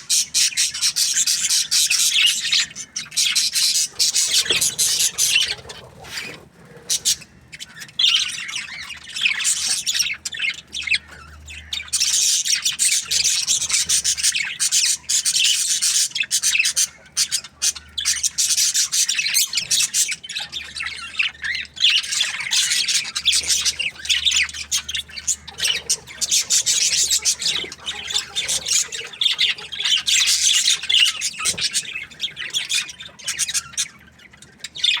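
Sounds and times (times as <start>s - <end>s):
budgerigars chattering and chirping: 0.0s - 35.0s.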